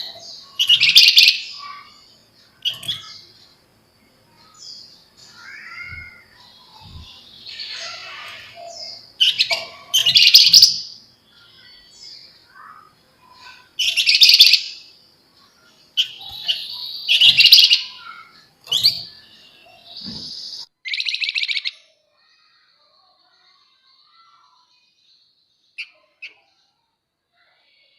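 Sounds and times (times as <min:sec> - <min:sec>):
bird singing rapid chattering notes: 0:00.0 - 0:22.6
soft bird calls: 0:00.0 - 0:27.9.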